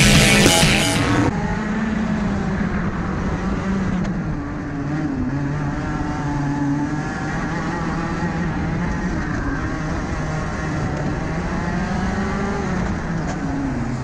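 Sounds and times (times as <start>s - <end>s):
kart engine running: 0.0s - 14.0s.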